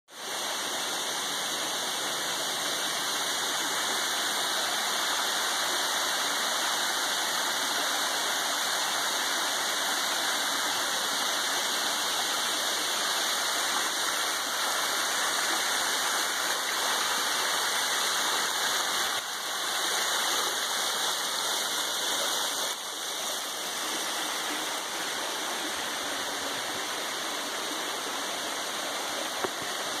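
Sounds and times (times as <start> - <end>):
creek water spilling over rocks: 0.2 - 30.0
waterfall rushing: 0.2 - 30.0.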